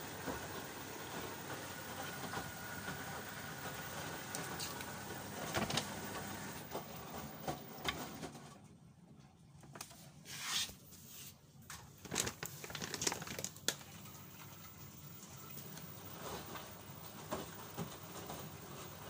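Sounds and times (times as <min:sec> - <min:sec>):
washing machine running: 0:00.0 - 0:10.2, 0:11.6 - 0:19.0.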